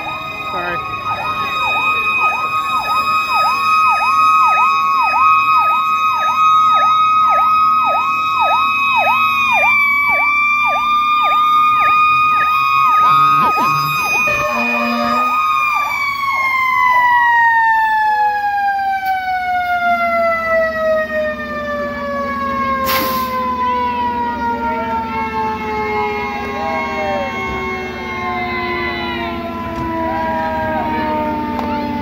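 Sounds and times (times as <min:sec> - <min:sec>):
siren fast yelp: 0:00.0 - 0:20.9, 0:22.6 - 0:32.0
siren steady high wail: 0:00.0 - 0:32.0.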